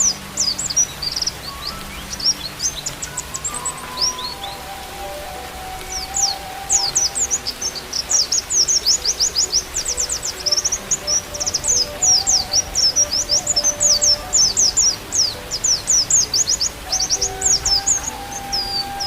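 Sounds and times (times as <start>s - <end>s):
bamboo flute melody: 0.0s - 19.0s
bird twittering chirps: 0.0s - 19.0s
rain hiss: 0.0s - 19.0s.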